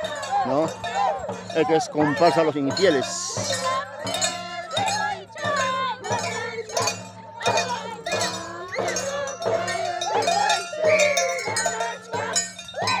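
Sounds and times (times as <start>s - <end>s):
hand drum steady beat: 0.0s - 13.0s
people singing high-pitched song: 0.0s - 13.0s.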